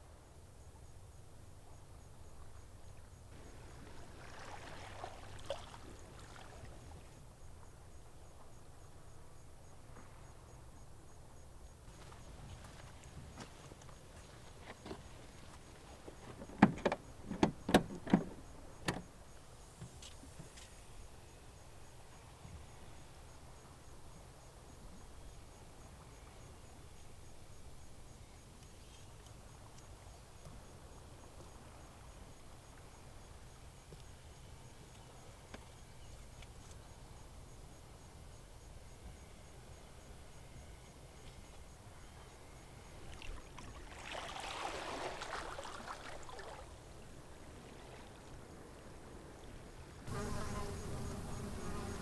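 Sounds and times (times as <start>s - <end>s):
low steady background hiss: 0.0s - 52.0s.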